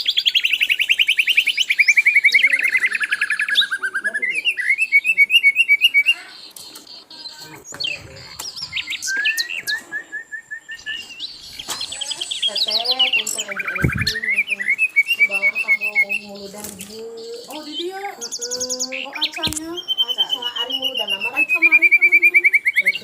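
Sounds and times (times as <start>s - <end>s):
flycatcher singing: 0.0s - 23.0s.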